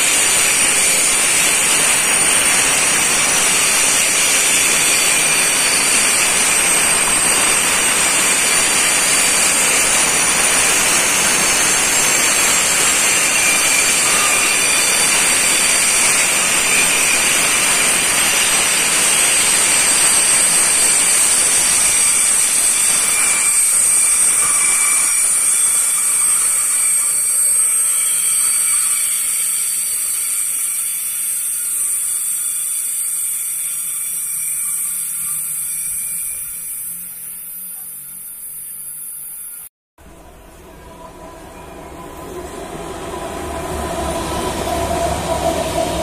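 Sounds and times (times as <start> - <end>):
freight train rolling past: 0.0 - 37.8, 40.0 - 46.0
high-pitched wheel squeal: 0.1 - 39.6.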